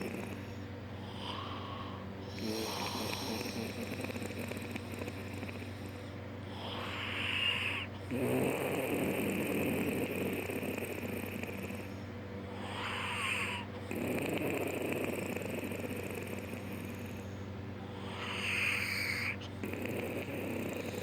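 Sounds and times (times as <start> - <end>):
man snoring: 0.0 - 11.9, 12.6 - 17.3, 17.9 - 21.0.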